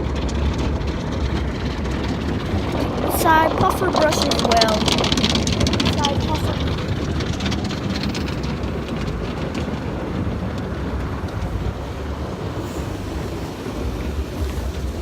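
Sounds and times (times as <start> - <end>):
low rumble: 0.0 - 15.0
car wash brushes scrubbing: 1.9 - 15.0
water spraying: 1.9 - 15.0.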